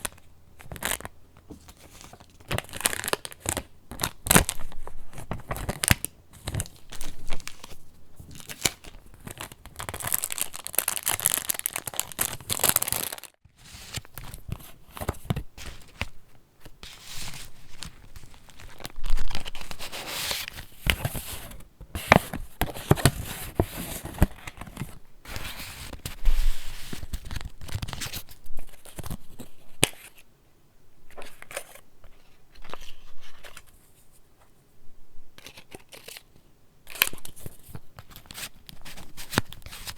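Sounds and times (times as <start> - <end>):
paper rustling and crinkling: 0.0 - 30.2, 31.1 - 34.2, 36.9 - 39.9.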